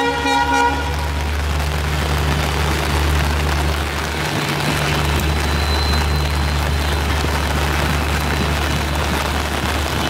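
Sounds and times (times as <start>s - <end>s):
diesel locomotive engine rumbling: 0.0s - 10.0s
rain hissing: 0.0s - 10.0s.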